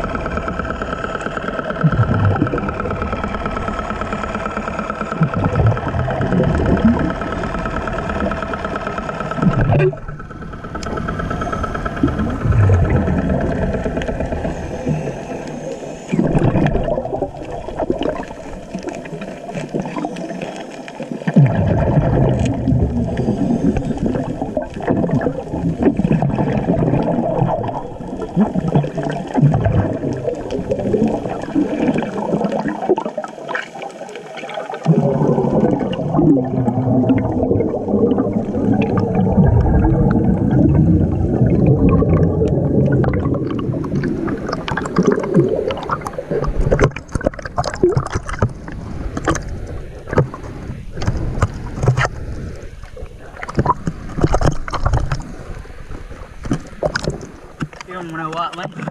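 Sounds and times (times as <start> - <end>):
deep rumble: 0.0 - 18.9, 21.4 - 32.6, 34.9 - 57.6
underwater air bubbles gurgling: 0.0 - 58.9.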